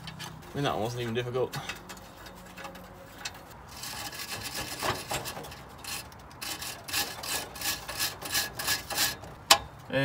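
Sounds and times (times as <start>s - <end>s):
metal clamp scraping and grating: 0.0s - 9.8s.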